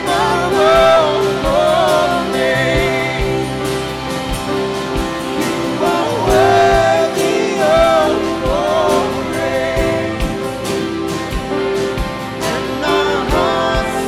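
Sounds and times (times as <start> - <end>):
person singing: 0.0 - 14.0
worship band playing slow song: 0.0 - 14.0.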